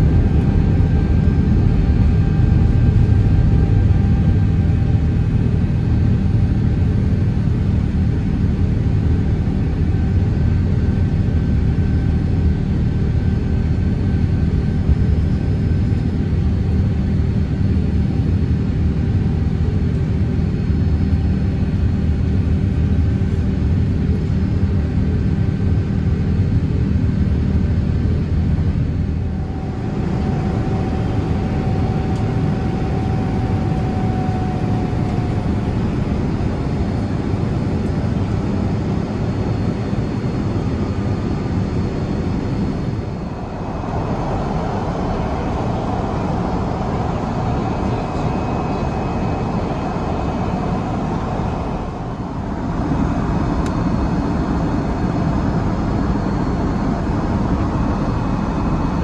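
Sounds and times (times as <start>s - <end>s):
aircraft engines and airflow rumble: 0.0s - 59.0s.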